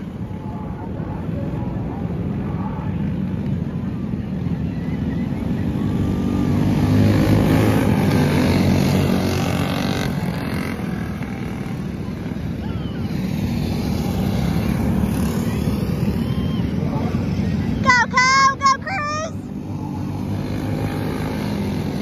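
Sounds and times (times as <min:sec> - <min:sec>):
small race car engines passing: 0:00.0 - 0:22.0.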